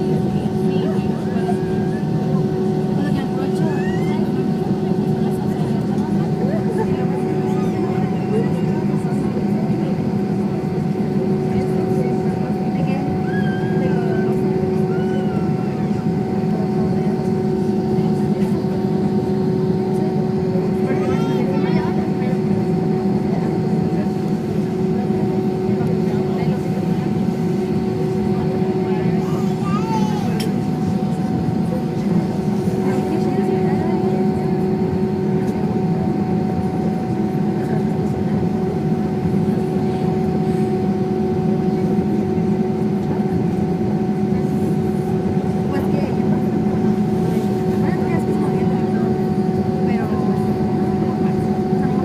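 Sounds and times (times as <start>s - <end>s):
jet engines droning in cabin: 0.0s - 52.0s.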